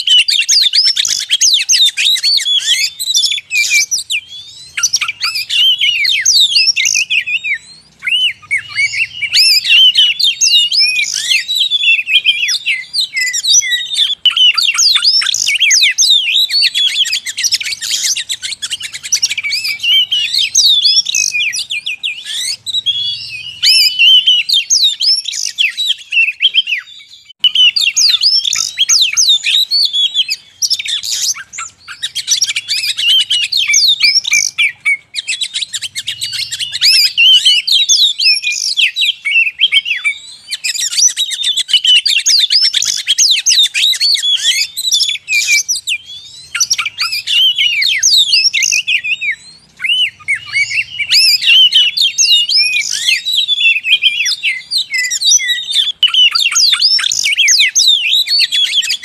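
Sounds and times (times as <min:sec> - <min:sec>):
magpie-robins singing: 0:00.0 - 0:59.0.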